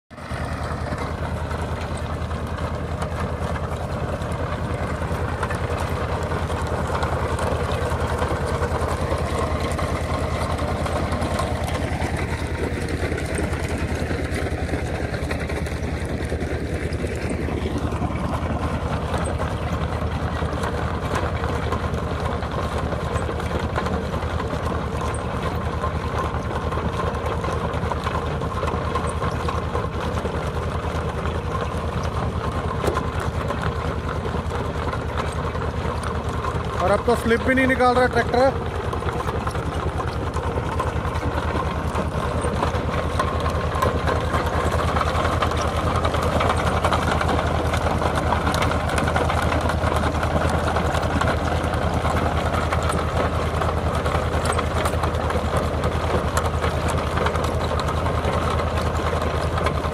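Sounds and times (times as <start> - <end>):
diesel engine running under load: 0.1 - 59.9.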